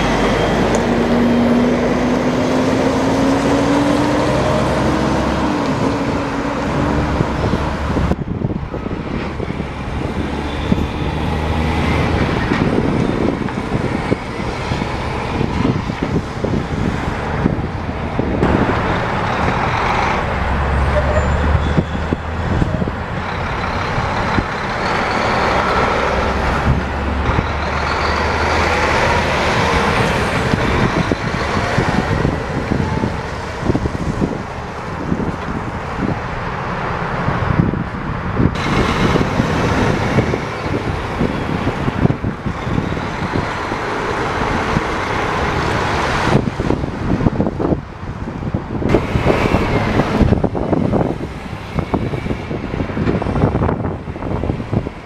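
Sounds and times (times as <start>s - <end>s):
diesel trucks driving past: 0.0s - 55.0s.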